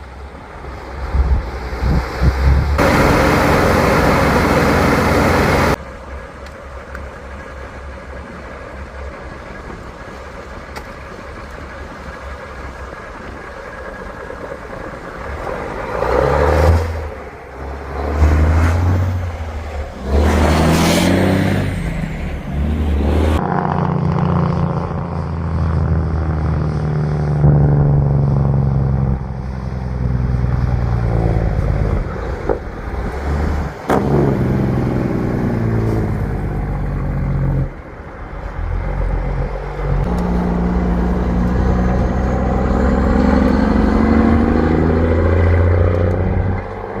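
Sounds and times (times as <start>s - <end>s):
heavy vehicle engine revving: 1.0s - 5.8s, 11.2s - 47.0s.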